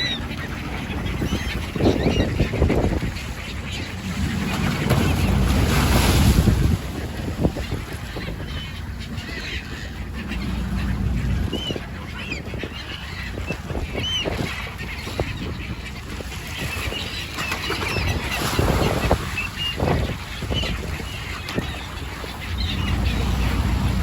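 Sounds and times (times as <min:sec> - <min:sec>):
flock of birds calling: 0:00.0 - 0:24.0
water rumbling: 0:00.0 - 0:24.0
wind: 0:00.0 - 0:24.0.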